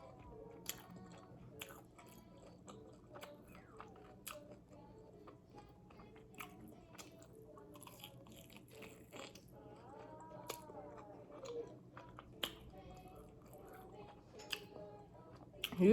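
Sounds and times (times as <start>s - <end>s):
crunchy chewing: 0.0s - 15.8s.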